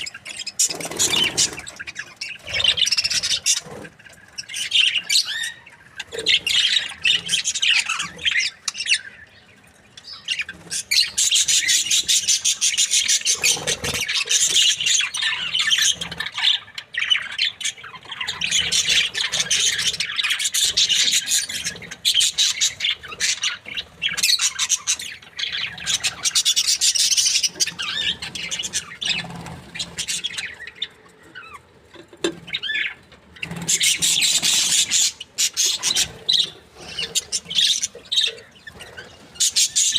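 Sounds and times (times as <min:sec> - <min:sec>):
budgerigars chattering: 0:00.0 - 0:09.4, 0:10.0 - 0:31.6, 0:32.4 - 0:39.9.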